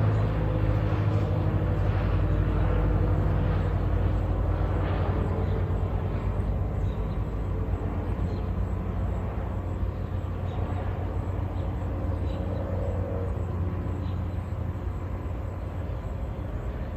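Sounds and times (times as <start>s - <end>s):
propeller plane droning: 0.0s - 16.9s.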